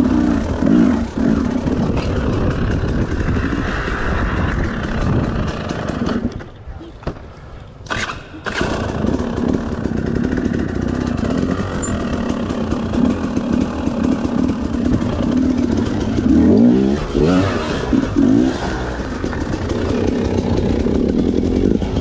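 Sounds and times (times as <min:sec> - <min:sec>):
off-road motorcycle engine revving: 0:00.0 - 0:06.4, 0:07.9 - 0:22.0.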